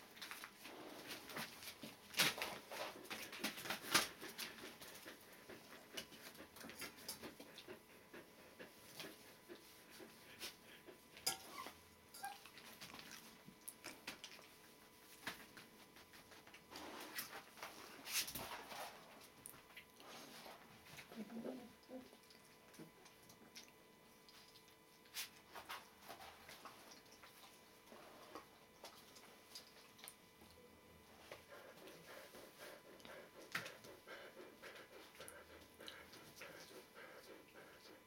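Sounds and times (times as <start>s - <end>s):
puppy paws pattering and rustling: 0.0s - 7.8s, 8.5s - 38.0s.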